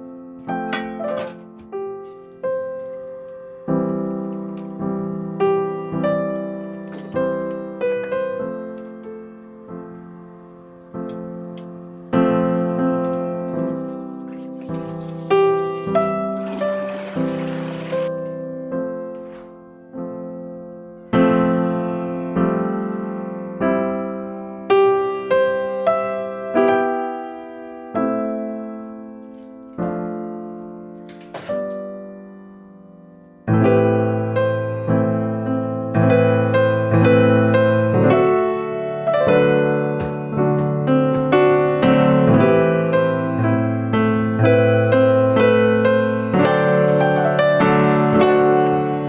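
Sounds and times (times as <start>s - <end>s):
gentle solo piano: 0.0s - 49.0s.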